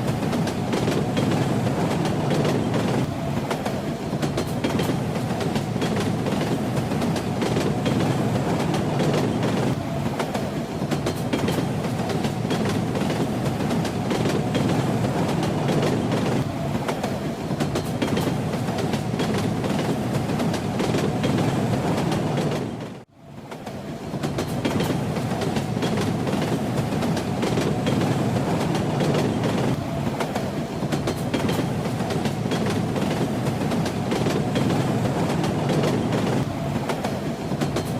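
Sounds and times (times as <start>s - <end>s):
train rumbling: 0.0s - 37.9s.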